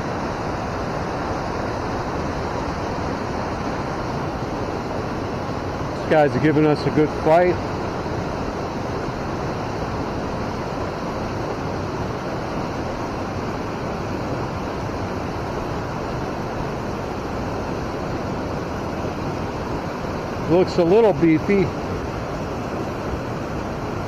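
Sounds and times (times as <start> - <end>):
river current rushing: 0.0 - 24.0.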